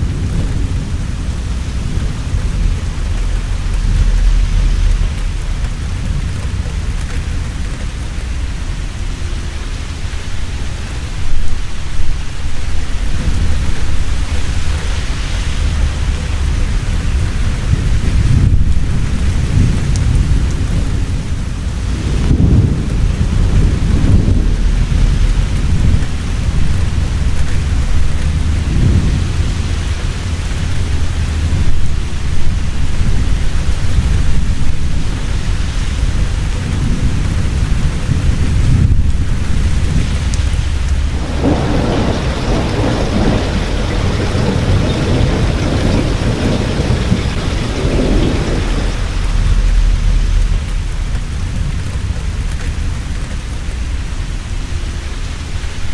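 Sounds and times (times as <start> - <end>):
heavy rain: 0.0 - 55.9
rolling thunder: 0.0 - 55.9.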